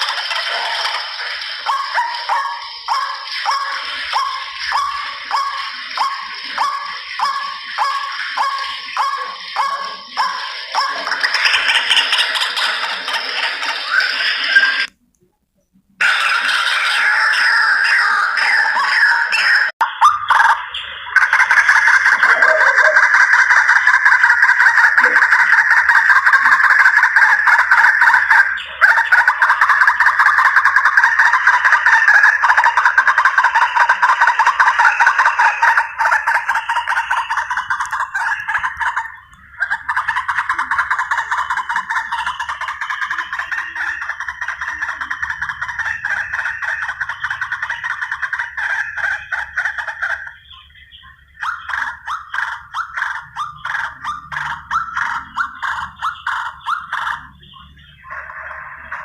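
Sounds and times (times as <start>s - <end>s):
waterhen calls played back: 0.0s - 14.9s, 16.0s - 50.6s, 51.2s - 59.0s.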